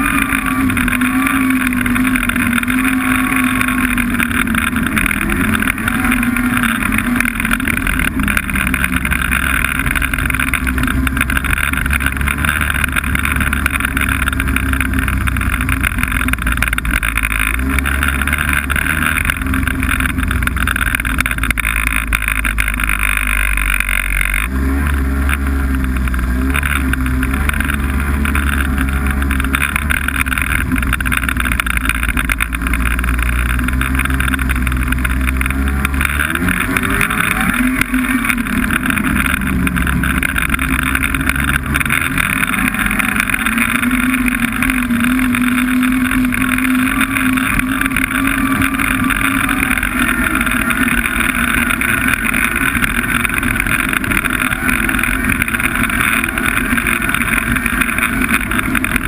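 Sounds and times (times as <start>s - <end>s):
snowmobile engine droning: 0.0s - 59.0s.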